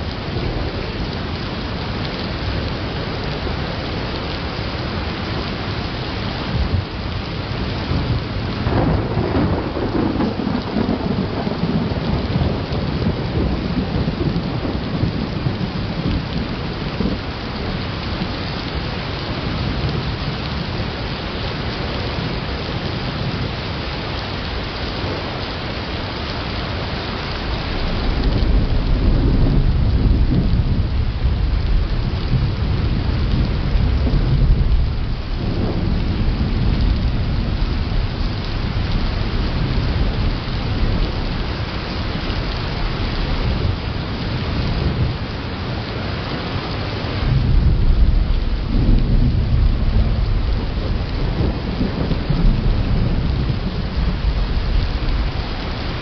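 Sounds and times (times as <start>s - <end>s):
low rumble of thunder: 0.0s - 56.0s
steady rain: 0.0s - 56.0s.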